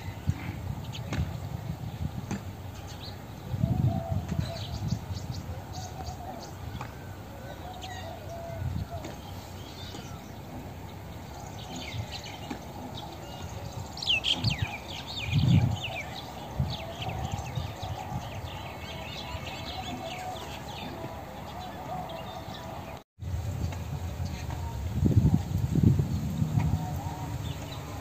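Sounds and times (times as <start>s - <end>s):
small birds chirping: 0.0s - 23.0s
low outdoor rumble: 0.0s - 28.0s.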